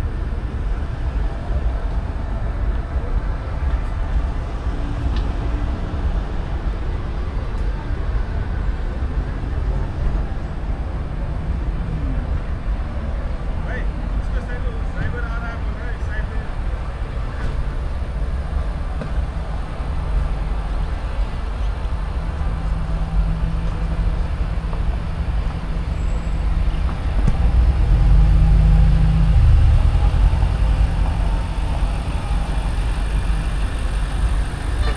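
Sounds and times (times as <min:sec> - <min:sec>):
low rumble of road vehicles: 0:00.0 - 0:34.9.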